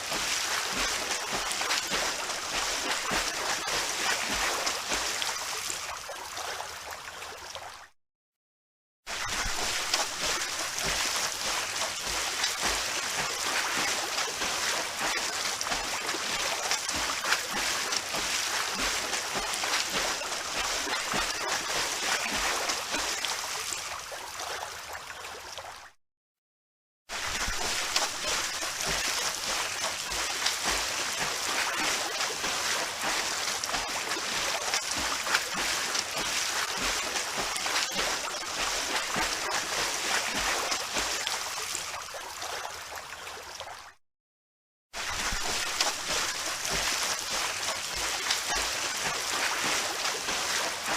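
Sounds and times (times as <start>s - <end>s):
pool water splashing: 0.0s - 7.8s, 9.1s - 25.9s, 27.1s - 43.9s, 45.0s - 50.9s.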